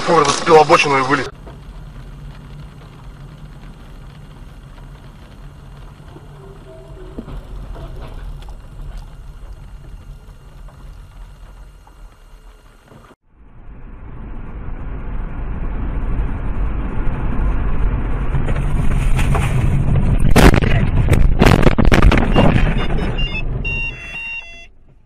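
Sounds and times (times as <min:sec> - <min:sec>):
road and engine rumble: 0:00.0 - 0:25.0
wind noise: 0:01.3 - 0:24.2.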